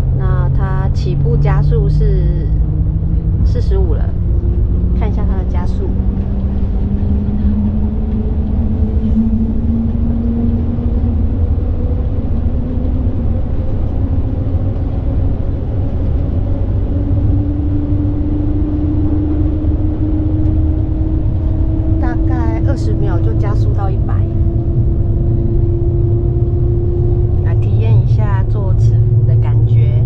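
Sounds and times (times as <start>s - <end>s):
higher climbing whine: 0.0s - 30.0s
rising whine: 0.0s - 30.0s
train cabin low rumble: 0.0s - 30.0s.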